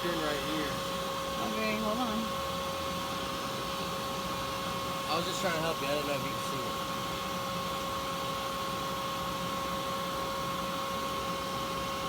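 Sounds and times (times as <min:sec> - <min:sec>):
car engine idling with whine: 0:00.0 - 0:12.0.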